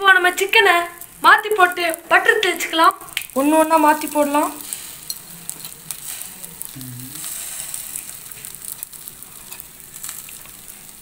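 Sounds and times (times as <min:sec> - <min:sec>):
chicken sizzling on a grill: 0:00.0 - 0:11.0
small crackles: 0:00.0 - 0:11.0.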